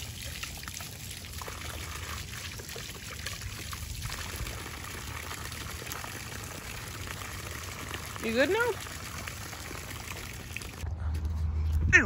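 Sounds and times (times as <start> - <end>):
water splashing onto ground: 0.0 - 10.8.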